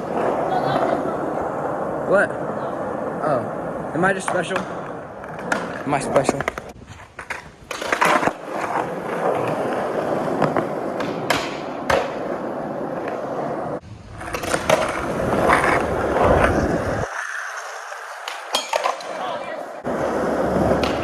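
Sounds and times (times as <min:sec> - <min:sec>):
skateboard clacks: 0:00.0 - 0:21.0
skateboard wheels rolling on pavement: 0:00.0 - 0:21.0.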